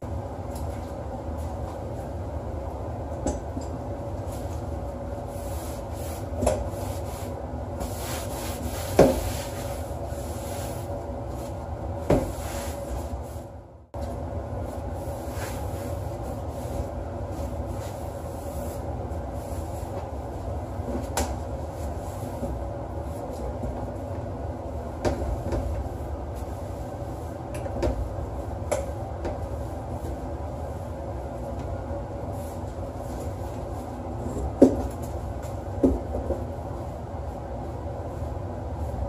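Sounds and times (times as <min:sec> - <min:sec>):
low rumble with hum: 0:00.0 - 0:39.0.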